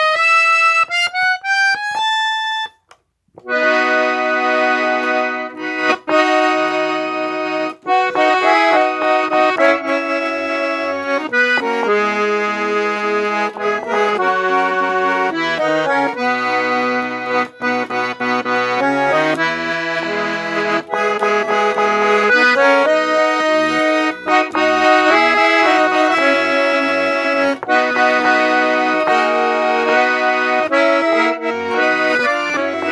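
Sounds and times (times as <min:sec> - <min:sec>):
accordion playing a tune: 0:00.0 - 0:32.9.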